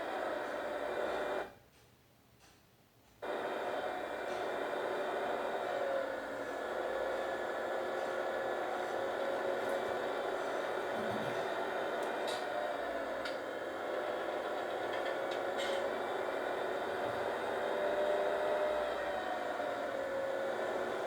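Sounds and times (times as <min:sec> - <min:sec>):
machine drone: 0:03.2 - 0:21.0.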